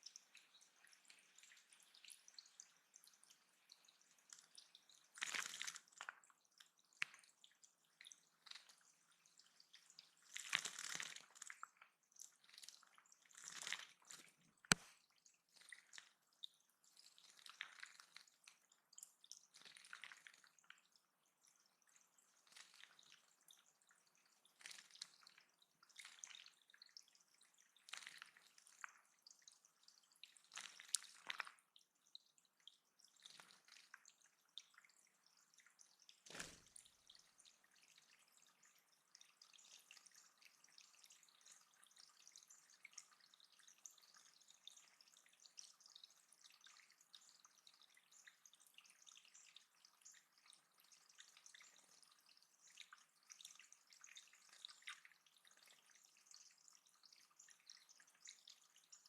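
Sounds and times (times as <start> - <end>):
water dripping: 0.0 - 59.0.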